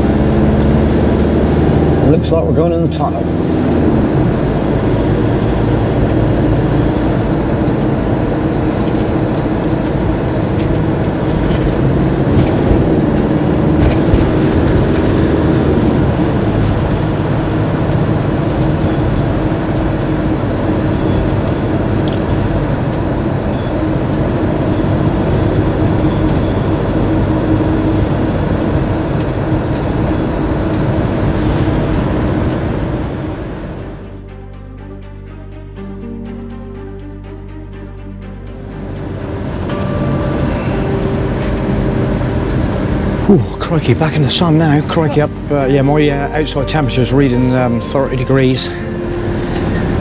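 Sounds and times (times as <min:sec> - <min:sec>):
diesel engine drone: 0:00.0 - 0:50.0
low wavering hum: 0:00.0 - 0:50.0
tyres on the road: 0:00.0 - 0:50.0.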